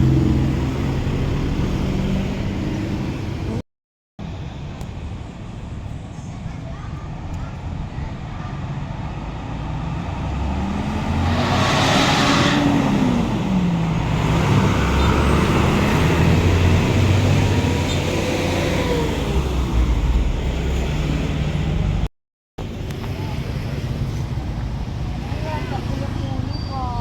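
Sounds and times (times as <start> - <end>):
bus engine passing: 0.0 - 3.6, 4.2 - 27.0.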